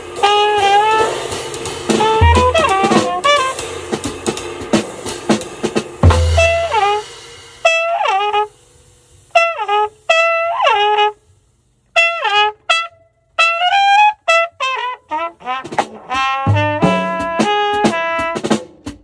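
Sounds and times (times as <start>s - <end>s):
drums and band: 0.0s - 11.2s, 14.7s - 19.0s
jazz horn playing: 0.0s - 11.3s, 12.0s - 19.0s.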